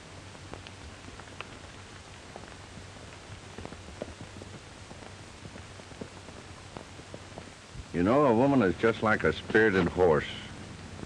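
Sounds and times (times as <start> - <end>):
film soundtrack hiss and crackle: 0.0 - 11.0
horse hoofbeats: 0.0 - 11.0.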